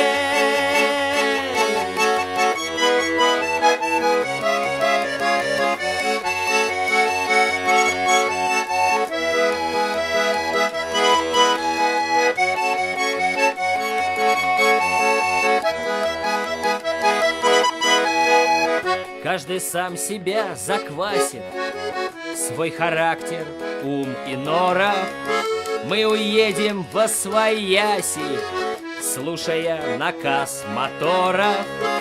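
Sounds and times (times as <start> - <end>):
accordion playing: 0.0 - 32.0.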